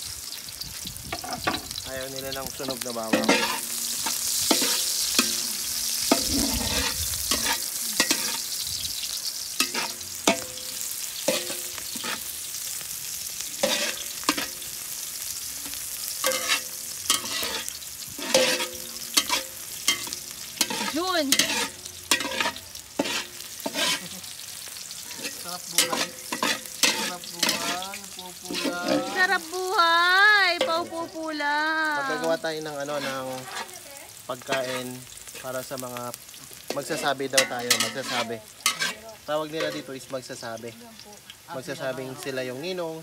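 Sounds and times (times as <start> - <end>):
garlic and onion sizzling in oil: 0.0 - 43.0
metal spatula scraping a wok: 1.1 - 12.8, 13.6 - 29.5, 30.6 - 31.2, 32.2 - 33.8, 34.4 - 35.9, 36.5 - 40.1.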